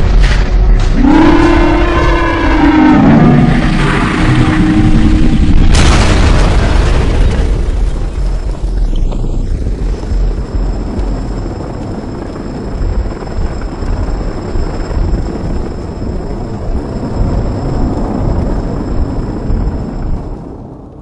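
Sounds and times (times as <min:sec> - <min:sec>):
low rumbling roar: 0:00.0 - 0:20.4.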